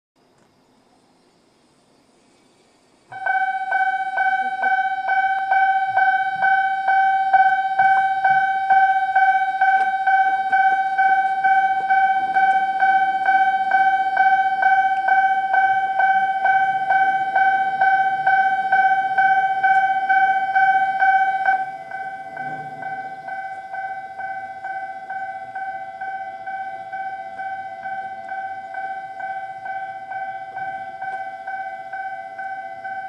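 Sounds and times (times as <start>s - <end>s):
level crossing warning bell: 3.1s - 33.0s.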